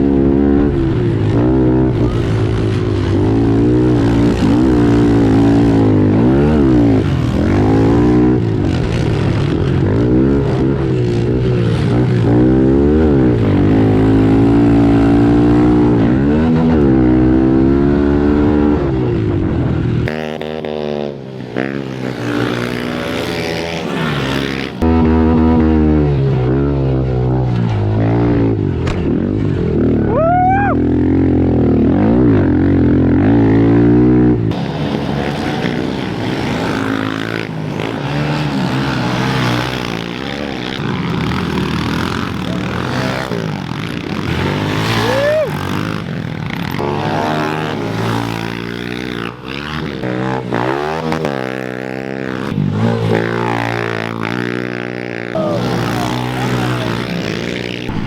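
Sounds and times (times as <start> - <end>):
small motorbike engines revving: 0.0 - 58.0.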